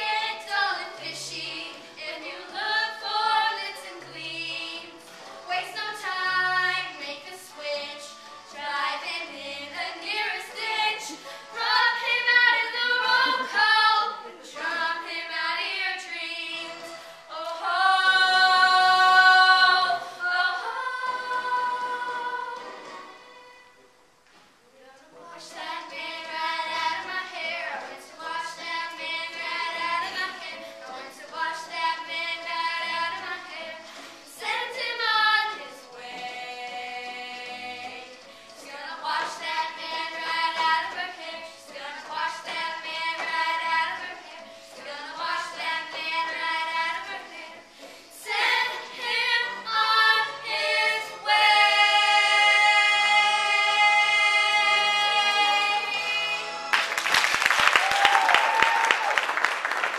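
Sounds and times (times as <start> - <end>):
girls chorus singing: 0.0 - 23.6, 25.0 - 56.8.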